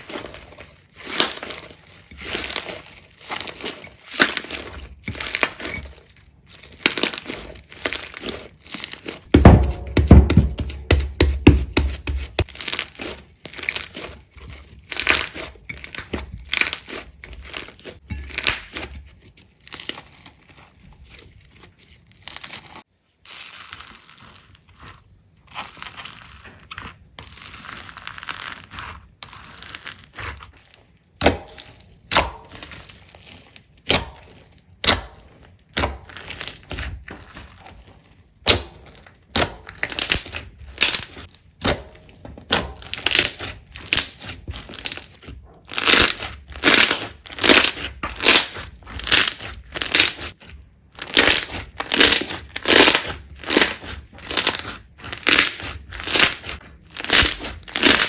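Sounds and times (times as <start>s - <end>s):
slime crackling and popping: 0.0s - 19.0s, 21.5s - 58.0s.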